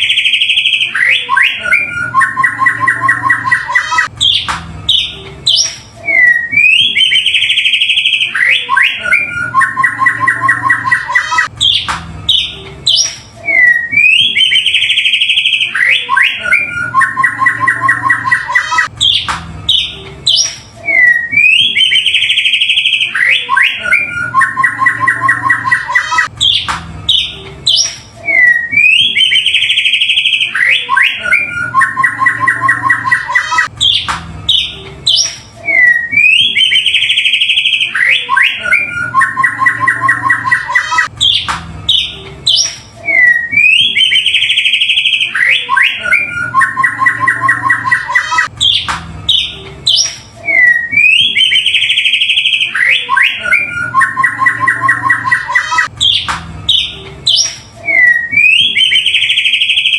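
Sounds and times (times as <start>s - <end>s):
bird song whistles and trills: 0.0s - 59.9s.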